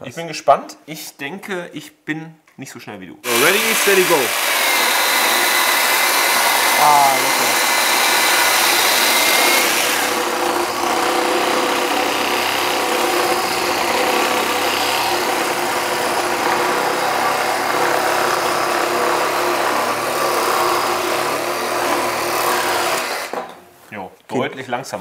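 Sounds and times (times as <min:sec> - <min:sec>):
reciprocating saw cutting wood: 0:03.2 - 0:23.5.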